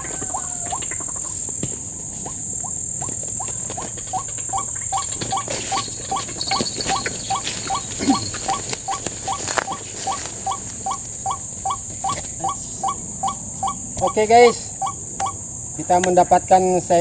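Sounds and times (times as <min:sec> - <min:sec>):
rustling: 0:00.0 - 0:13.7
waterhen calling: 0:00.0 - 0:16.5
insects droning: 0:00.0 - 0:17.0.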